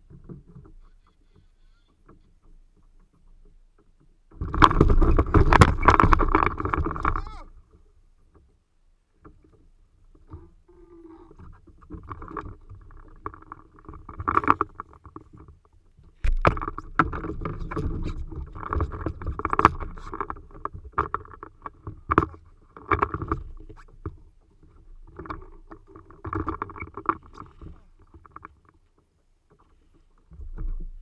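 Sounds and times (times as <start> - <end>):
water against plastic hull: 0.0 - 31.0.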